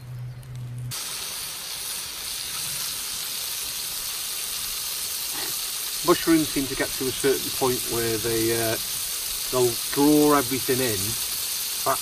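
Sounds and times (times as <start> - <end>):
mushrooms sizzling in a frying pan: 0.9 - 12.0.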